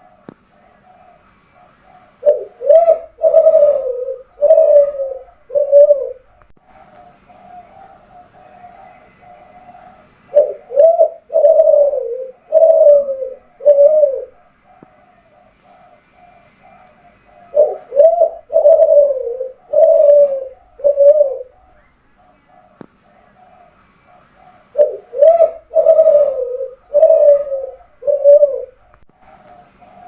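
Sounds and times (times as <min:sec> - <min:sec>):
dove cooing: 0:00.0 - 0:30.0.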